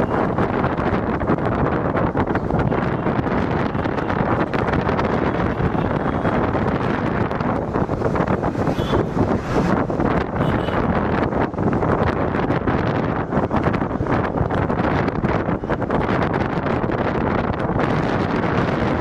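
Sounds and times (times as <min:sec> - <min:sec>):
car engine: 0:00.0 - 0:19.0
road noise: 0:00.0 - 0:19.0
wind buffeting microphone: 0:00.0 - 0:19.0.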